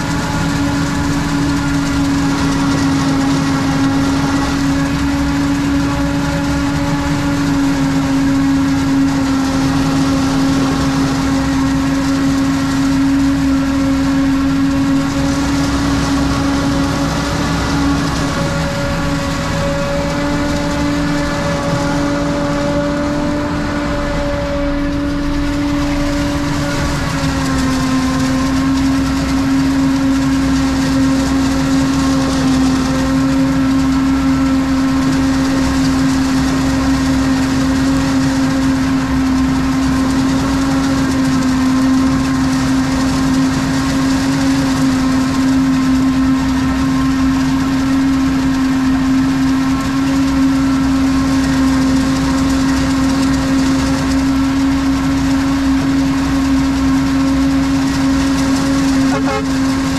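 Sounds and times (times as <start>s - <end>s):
truck engine humming: 0.0s - 59.9s.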